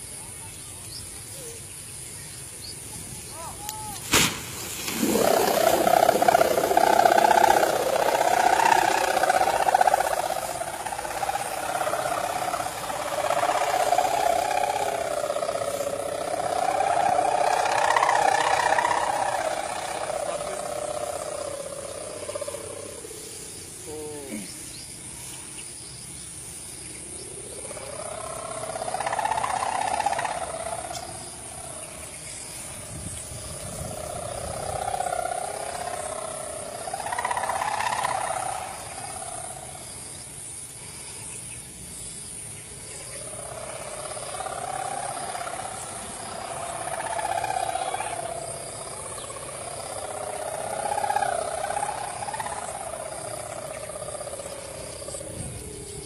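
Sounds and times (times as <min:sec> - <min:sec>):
kite hummer buzzing drone: 0:00.0 - 0:56.0.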